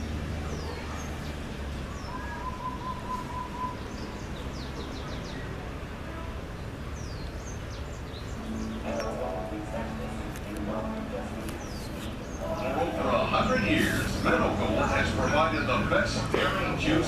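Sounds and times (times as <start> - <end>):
outdoor background noise: 0.0 - 17.0
small birds chirping: 0.0 - 17.0.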